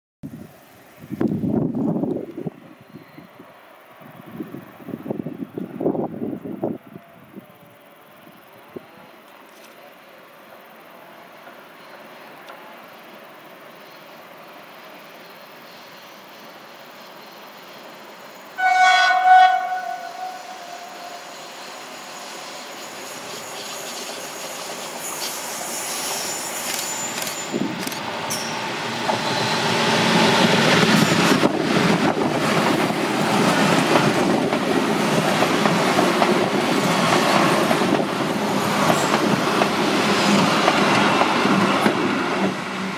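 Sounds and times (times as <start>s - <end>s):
train passing: 0.3s - 42.9s.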